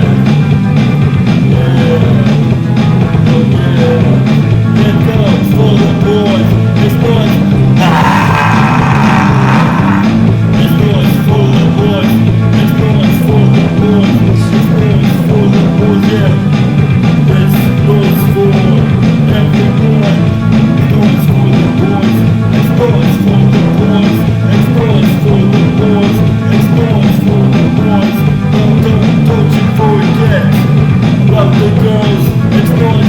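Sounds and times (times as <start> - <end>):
drums striking: 0.0 - 33.0
punk rock band music: 0.0 - 33.0.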